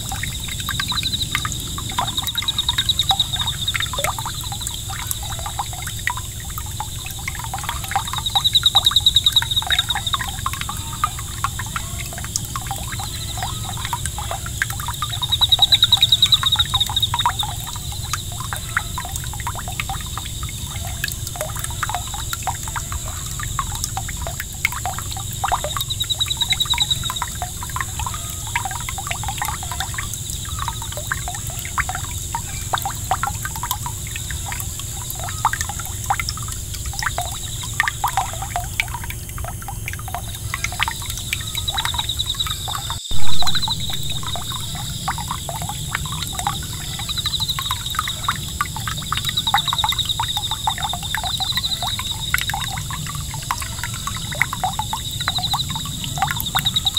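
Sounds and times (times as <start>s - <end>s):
fountain water splashing: 0.0s - 56.9s.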